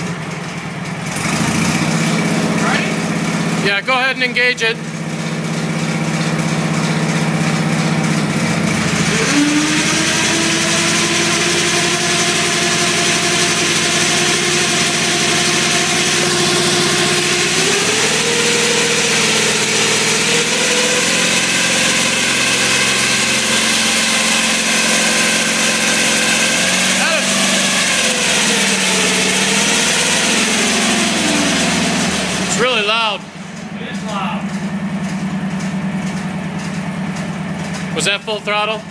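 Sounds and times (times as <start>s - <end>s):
garden tractor engine hum: 0.0s - 38.9s
snow thrower auger whining: 0.0s - 38.9s.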